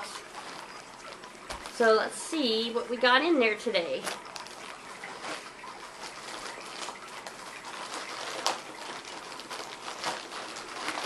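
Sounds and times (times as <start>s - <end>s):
sharp plastic crackle: 0.0s - 2.2s, 3.9s - 11.0s
plastic mailer bag crinkling: 0.0s - 11.0s.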